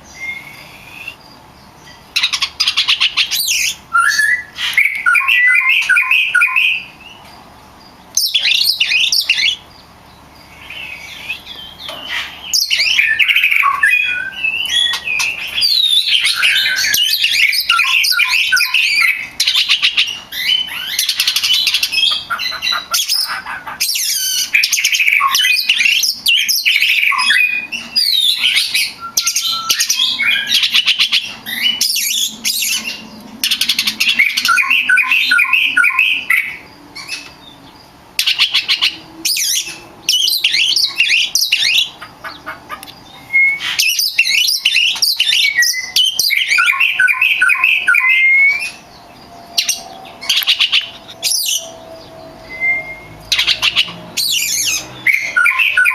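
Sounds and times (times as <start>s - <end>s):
bird singing whistles and trills: 0.0s - 7.3s, 8.1s - 9.8s, 10.4s - 42.0s, 42.9s - 55.9s.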